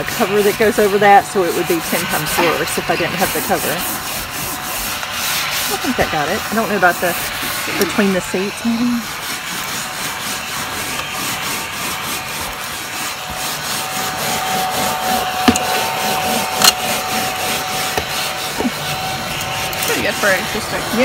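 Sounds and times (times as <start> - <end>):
mini vacuum hissing: 0.0 - 21.0
nozzle scraping carpet: 0.0 - 21.0.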